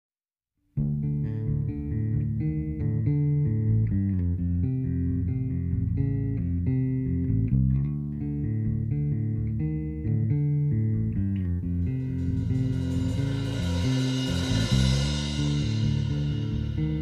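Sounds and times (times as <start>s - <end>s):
guitar riff: 0.8s - 17.0s.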